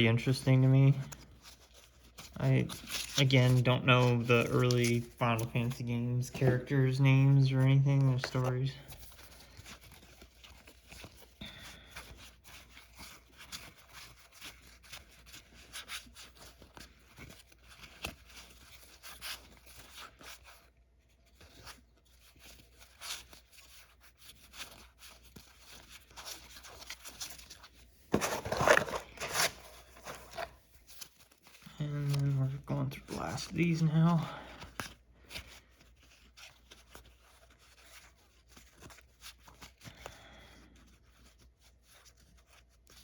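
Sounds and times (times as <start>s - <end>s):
trading cards clicking and rustling: 0.1s - 20.7s, 21.3s - 39.9s.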